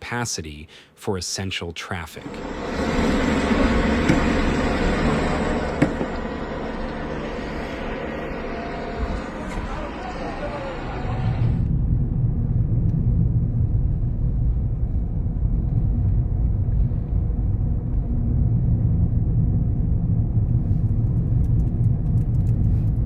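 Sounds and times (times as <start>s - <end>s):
loud low rumble: 2.2s - 23.0s.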